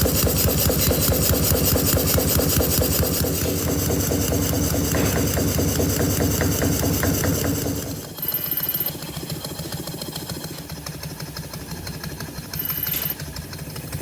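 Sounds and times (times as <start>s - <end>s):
small model engine knocking: 0.0s - 14.0s.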